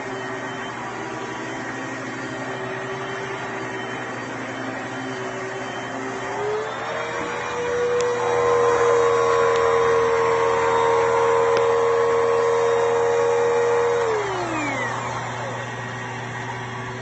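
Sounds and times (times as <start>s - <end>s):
vacuum cleaner whining: 0.0s - 17.0s.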